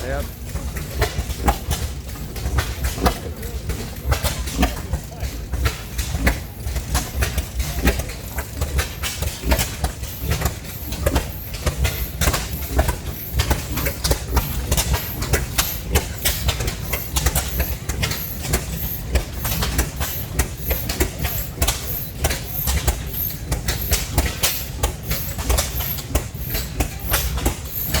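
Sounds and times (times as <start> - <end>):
exhaust pops: 0.0 - 28.0
mechanical clatter: 0.0 - 28.0
stationary engines running: 0.0 - 28.0.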